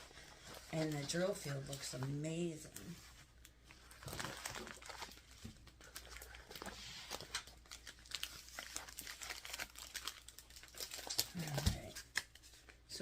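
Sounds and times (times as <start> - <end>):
packaging crinkling and rustling: 0.0 - 12.9.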